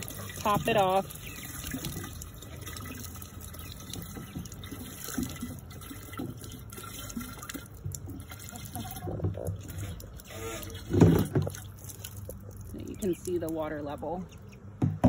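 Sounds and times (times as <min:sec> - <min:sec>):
water pouring into bucket: 0:00.0 - 0:14.2
small water splashes: 0:00.0 - 0:14.6.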